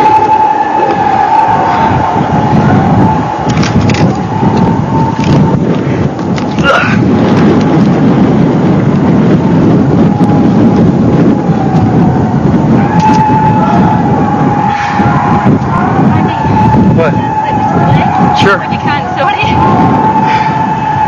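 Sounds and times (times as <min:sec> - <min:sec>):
air-raid siren: 0:00.0 - 0:05.8, 0:08.2 - 0:21.0
loud continuous rumble: 0:00.0 - 0:21.0.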